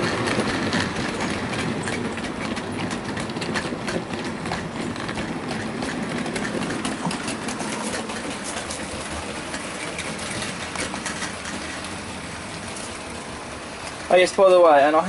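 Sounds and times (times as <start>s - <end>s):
wheels clicking on track: 0.0s - 15.0s.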